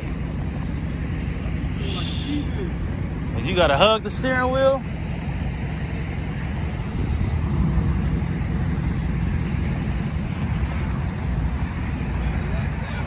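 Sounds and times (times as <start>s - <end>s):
car exhaust deep rumble: 0.0s - 13.0s.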